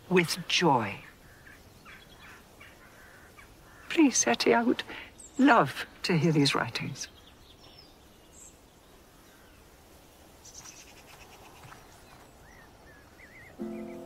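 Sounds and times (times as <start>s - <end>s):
faint garden ambience: 0.0s - 14.0s
small birds chirping: 0.0s - 14.0s.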